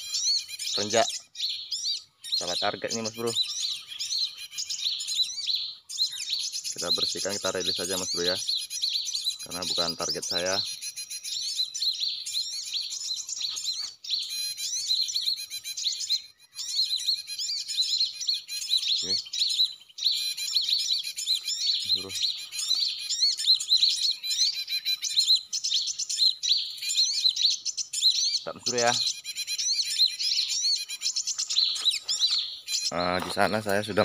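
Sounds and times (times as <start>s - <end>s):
small birds twittering: 0.0s - 34.0s.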